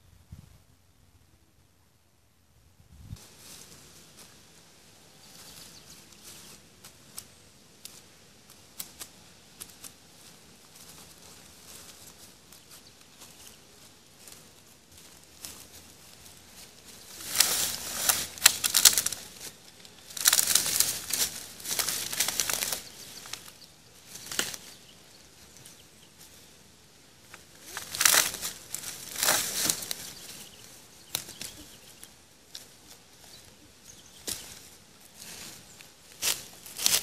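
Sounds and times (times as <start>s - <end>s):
dry leaves crunching underfoot: 3.2s - 37.0s.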